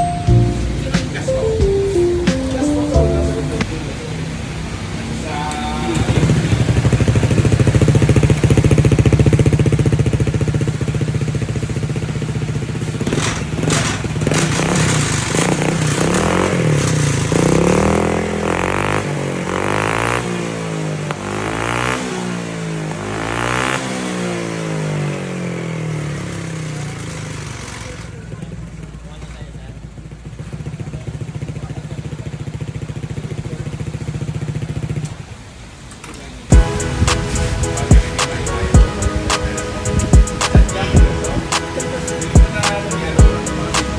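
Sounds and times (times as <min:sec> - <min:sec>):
scooter engine revving: 0:03.6 - 0:35.7, 0:36.5 - 0:43.9.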